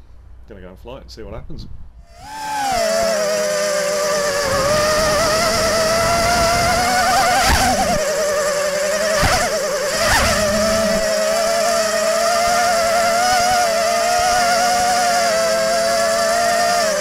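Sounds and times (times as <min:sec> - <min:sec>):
drone motors whining: 0:02.0 - 0:17.0.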